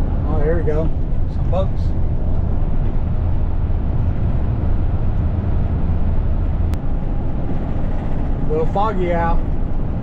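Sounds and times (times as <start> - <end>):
car road noise from inside: 0.0 - 10.0.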